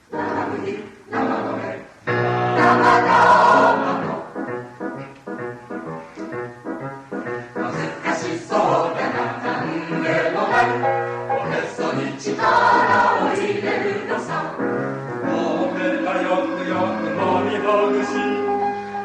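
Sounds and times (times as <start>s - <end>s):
mixed choir singing: 0.0s - 4.4s, 7.5s - 18.7s.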